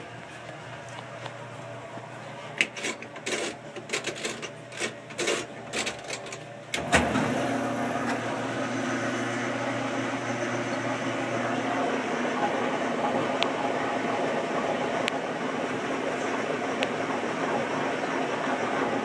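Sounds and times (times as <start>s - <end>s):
washing machine humming and churning: 0.0s - 19.0s.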